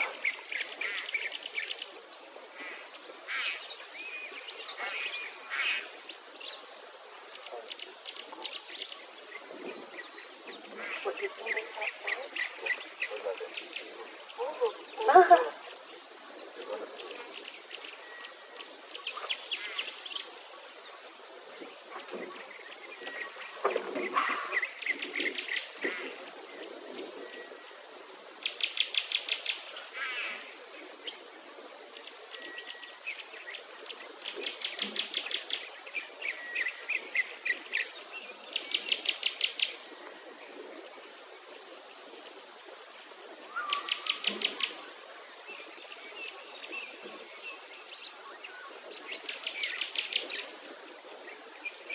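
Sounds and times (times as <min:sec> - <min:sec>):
faint high-pitched insect buzz: 0:00.0 - 0:51.9.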